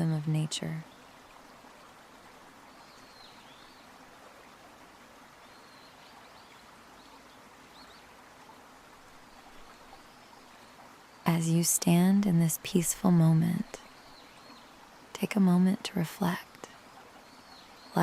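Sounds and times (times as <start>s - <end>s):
stream running water: 0.0s - 18.0s.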